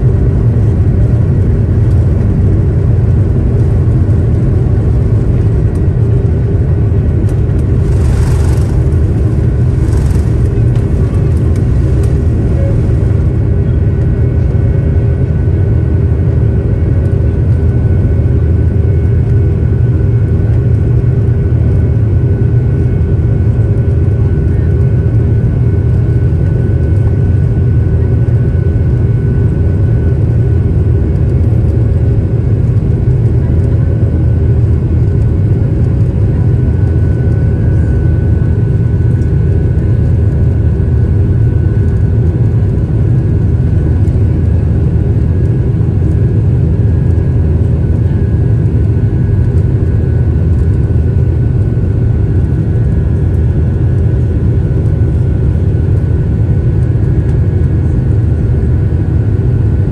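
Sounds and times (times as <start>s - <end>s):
faint steady whine: 0.0s - 59.9s
jet engine low rumble: 0.0s - 59.9s.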